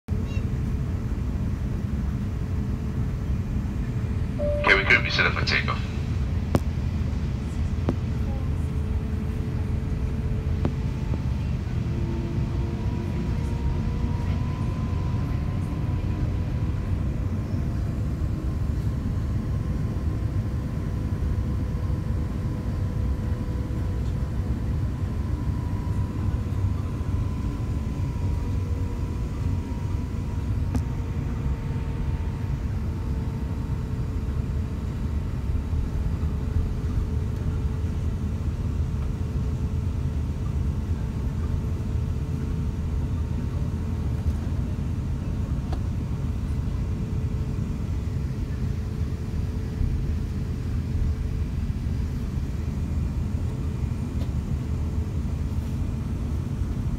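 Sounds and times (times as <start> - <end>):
jet engines low rumble: 0.0 - 56.9
faint engine whine: 0.1 - 56.9.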